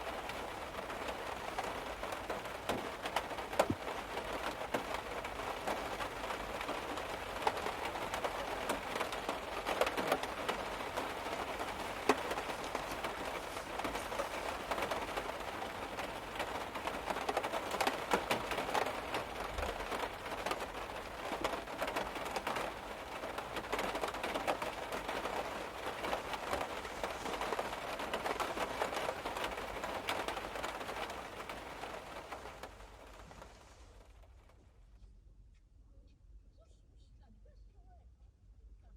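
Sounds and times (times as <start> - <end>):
rain pattering on a car: 0.0 - 34.8.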